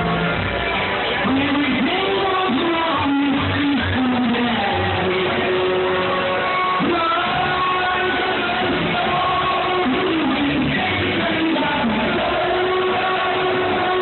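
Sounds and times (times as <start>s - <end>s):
loud live concert music: 0.0s - 14.0s.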